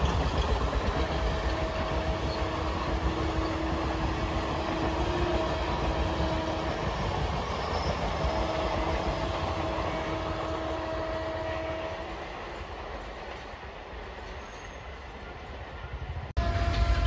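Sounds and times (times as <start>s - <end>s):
passing train rumble: 0.0s - 17.0s.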